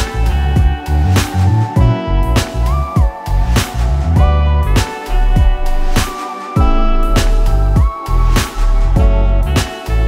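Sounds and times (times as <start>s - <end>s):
instrumental music with deep bass: 0.0s - 10.0s.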